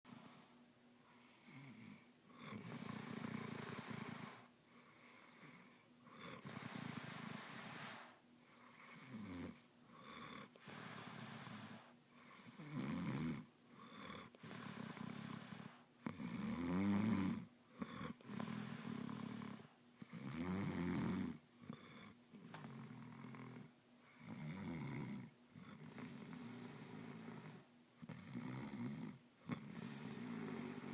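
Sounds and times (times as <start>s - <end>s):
rasping snoring: 0.1s - 30.9s.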